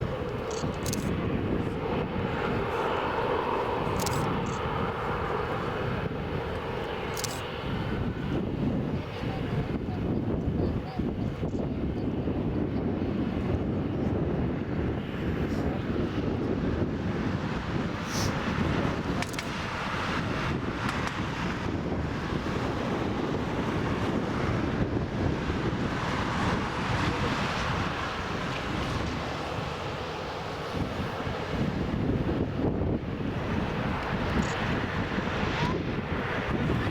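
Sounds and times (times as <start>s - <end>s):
jet engines at takeoff power: 0.0s - 36.9s
wind buffeting microphone: 0.0s - 36.9s.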